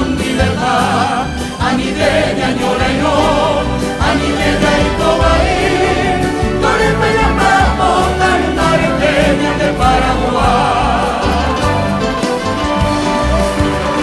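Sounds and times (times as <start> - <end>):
orchestra playing: 0.0 - 14.0
voices singing together: 0.0 - 14.0.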